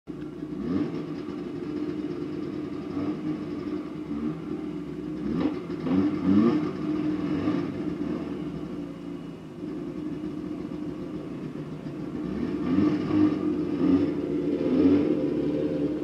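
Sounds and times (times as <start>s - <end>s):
two-stroke engine idling: 0.1s - 16.0s
engine revving: 0.4s - 8.8s, 10.0s - 16.0s.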